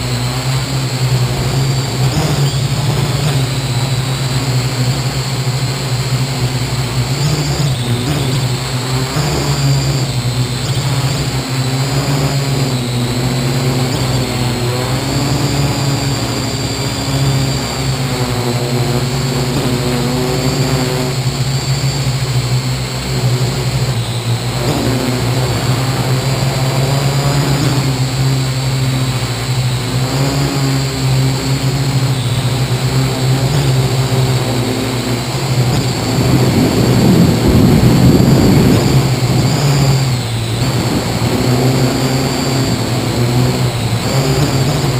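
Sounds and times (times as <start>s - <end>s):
high motor whine: 0.0s - 44.9s
quadcopter motors buzzing: 0.0s - 44.9s.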